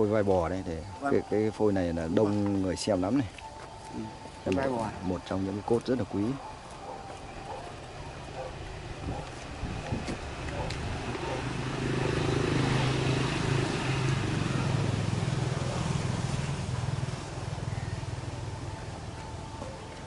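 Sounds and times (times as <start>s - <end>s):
passing vehicle engine hum: 3.0s - 20.0s.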